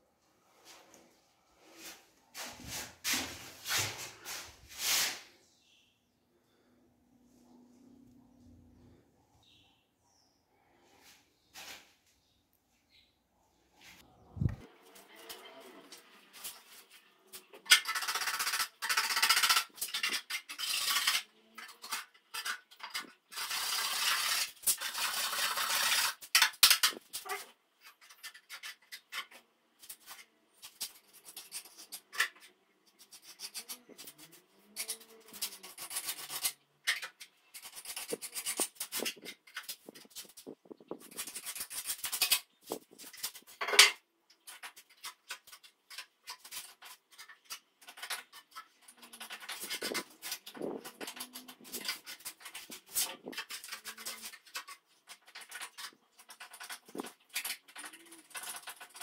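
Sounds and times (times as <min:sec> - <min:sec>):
tool scraping plastered wall: 0:01.6 - 0:05.4, 0:13.8 - 0:43.6, 0:44.4 - 0:59.0.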